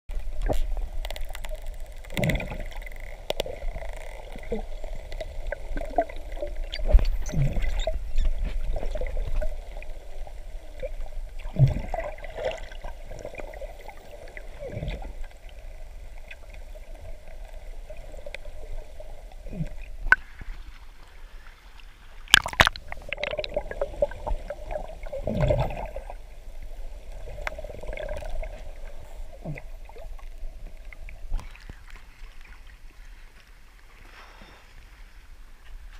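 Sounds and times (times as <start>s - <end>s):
underwater gurgles: 0.1s - 33.4s
underwater water wash: 0.1s - 35.9s.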